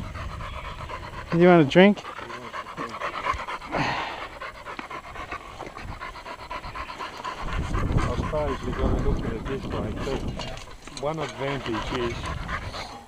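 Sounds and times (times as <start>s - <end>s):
dog panting: 0.0s - 13.0s
rustle: 0.0s - 13.0s.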